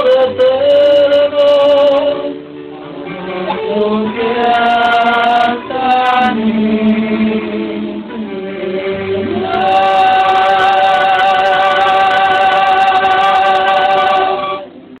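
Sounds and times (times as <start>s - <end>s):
mixed voices singing together: 0.0s - 14.8s.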